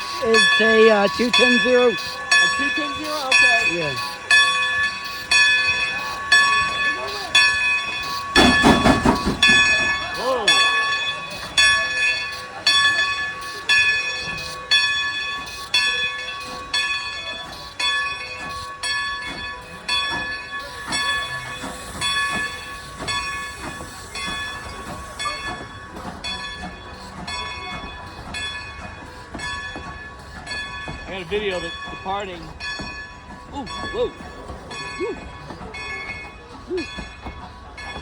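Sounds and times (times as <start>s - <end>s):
steam hiss: 0.0s - 17.8s, 18.4s - 32.6s
locomotive bell ringing: 0.0s - 38.0s.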